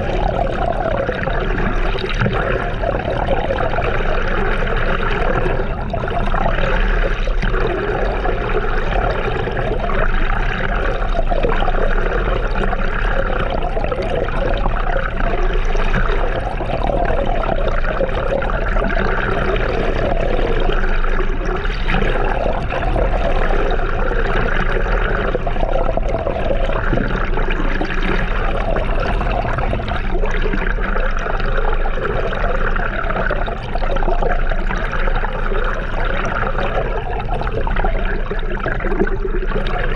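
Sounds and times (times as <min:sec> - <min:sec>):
water rushing and sloshing: 0:00.0 - 0:39.9.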